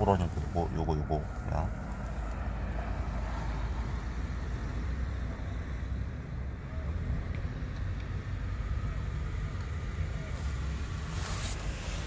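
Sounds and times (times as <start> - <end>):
street noise rumble: 0.0 - 12.0.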